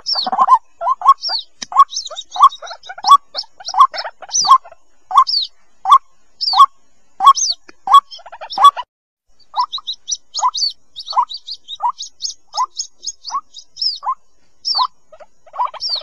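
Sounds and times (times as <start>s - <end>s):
bird chicks calling: 0.0s - 16.0s
high-pitched peeps: 0.0s - 16.0s.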